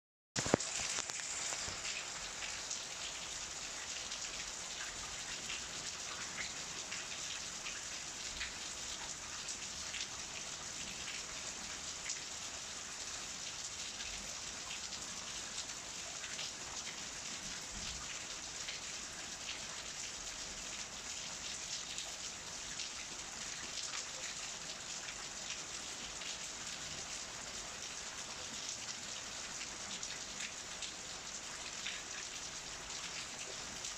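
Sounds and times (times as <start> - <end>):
rain falling on wet paving: 0.4 - 33.9.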